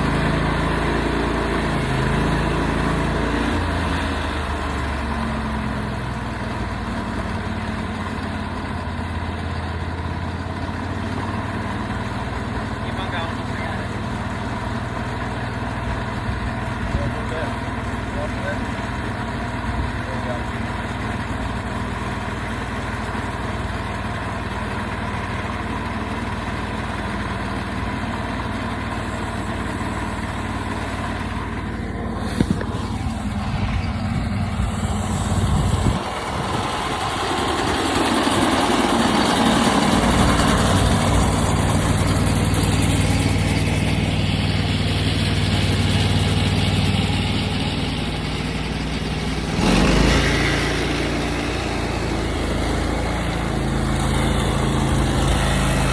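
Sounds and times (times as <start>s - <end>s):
sawmill cutting wood: 0.0s - 55.9s
sawmill engine running: 0.0s - 55.9s.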